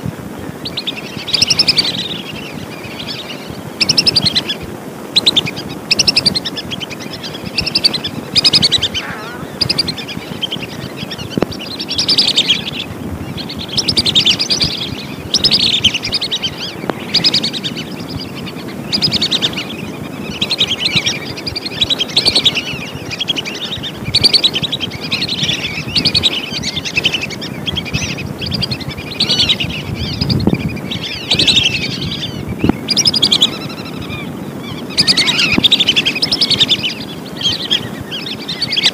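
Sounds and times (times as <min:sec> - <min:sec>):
whistling ducks calling: 0:05.2 - 0:38.9.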